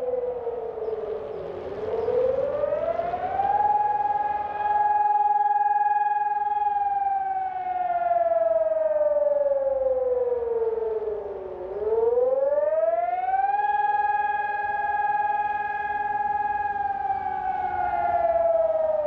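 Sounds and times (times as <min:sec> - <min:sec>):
warning siren: 0:00.0 - 0:19.0.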